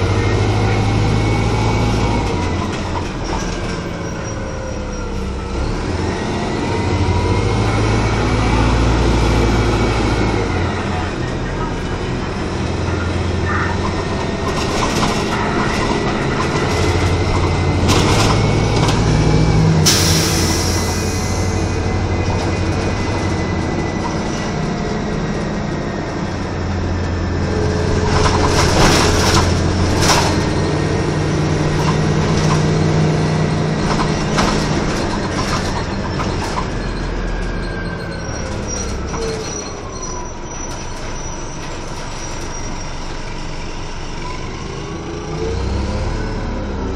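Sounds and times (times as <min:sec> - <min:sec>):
bus engine drone: 0:00.0 - 0:46.9.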